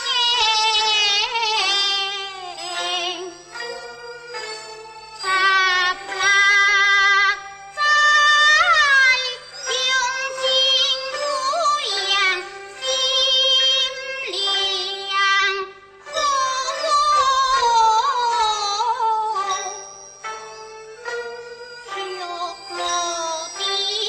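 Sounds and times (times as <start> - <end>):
opera singing high voice: 0.0 - 3.4, 5.2 - 19.9, 21.9 - 24.0.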